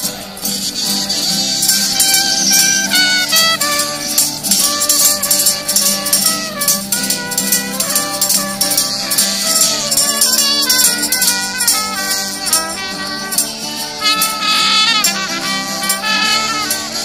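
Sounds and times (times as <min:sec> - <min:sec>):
shaken rattle beat: 0:00.0 - 0:17.0
strummed guitars: 0:00.0 - 0:17.0
trumpet melody: 0:00.0 - 0:17.0.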